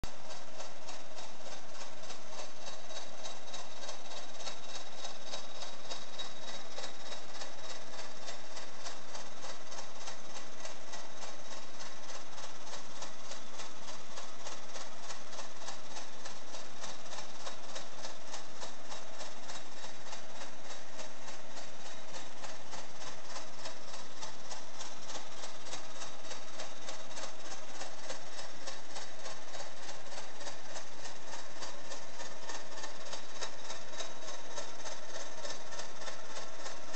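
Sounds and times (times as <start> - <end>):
model steam engine ticking clatter: 0.0 - 36.9.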